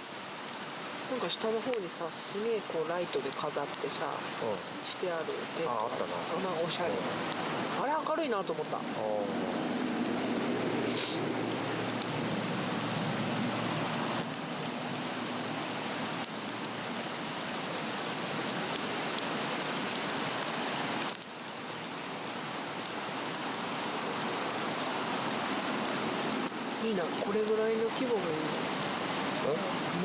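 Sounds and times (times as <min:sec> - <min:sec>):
stream rushing: 0:00.0 - 0:30.0.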